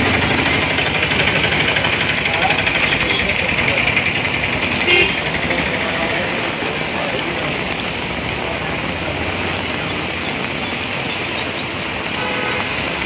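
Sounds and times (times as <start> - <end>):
heavy rain on wet street: 0.0 - 13.0
traffic moving through water: 0.0 - 13.0.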